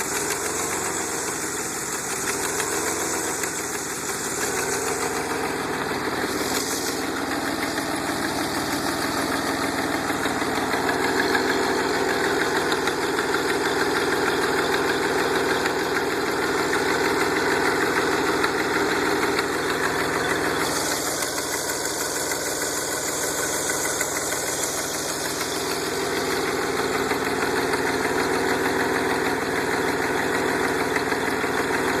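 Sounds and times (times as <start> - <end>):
car engine with leaking exhaust: 0.0 - 32.0.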